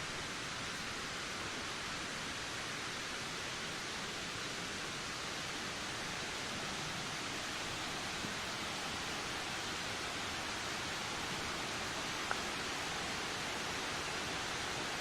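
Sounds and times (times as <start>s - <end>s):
steady wind hiss: 0.0s - 15.0s.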